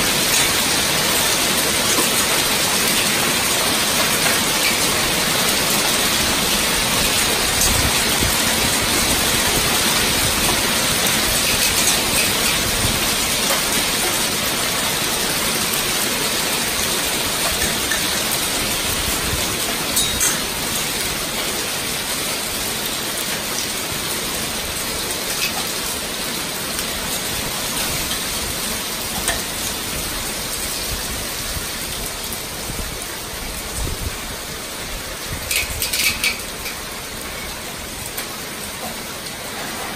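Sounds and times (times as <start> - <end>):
hailstones ticking: 0.0 - 32.0, 34.9 - 39.9
hail and rain falling hard: 0.0 - 39.9.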